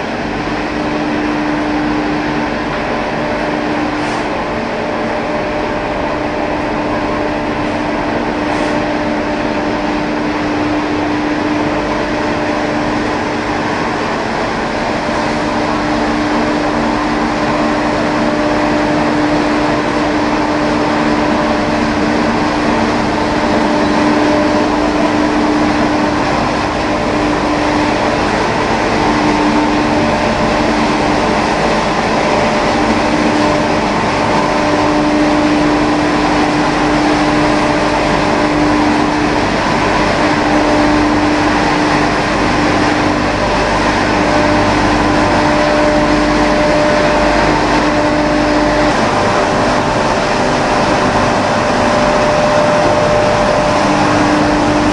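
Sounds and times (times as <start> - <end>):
drum dryer machine whirring: 0.0 - 54.9.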